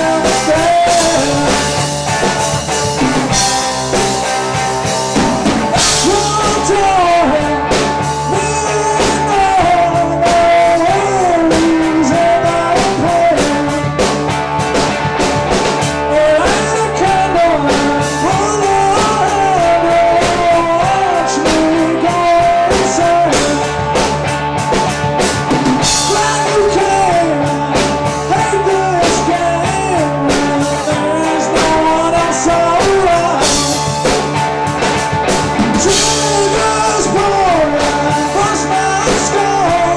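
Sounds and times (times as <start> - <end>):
man singing: 0.0 - 14.4, 15.6 - 24.8, 25.4 - 39.9
drum kit: 0.0 - 39.9
electric guitar: 0.0 - 39.9.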